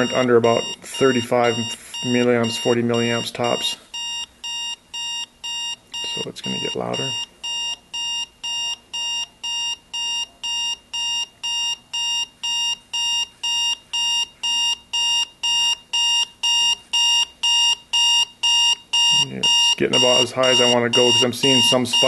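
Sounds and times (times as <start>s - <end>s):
alarm clock beeping: 0.0s - 22.0s.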